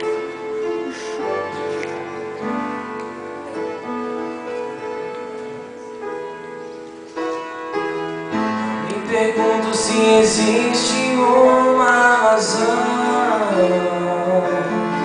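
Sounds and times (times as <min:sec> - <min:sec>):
sustained keyboard chords: 0:00.0 - 0:15.0.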